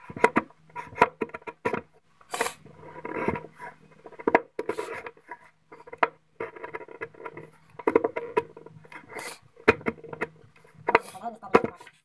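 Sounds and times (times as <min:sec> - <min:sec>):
chisel scraping wood: 0:00.0 - 0:11.8.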